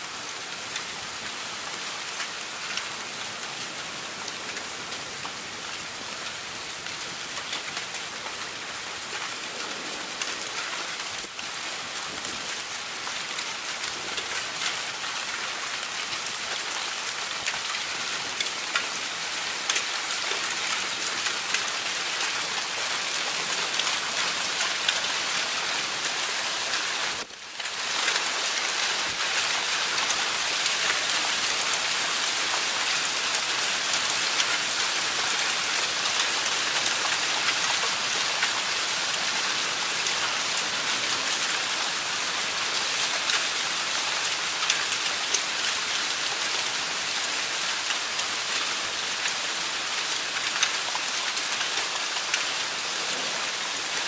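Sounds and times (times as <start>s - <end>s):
heavy rain on roofs and pavement: 0.0s - 54.0s.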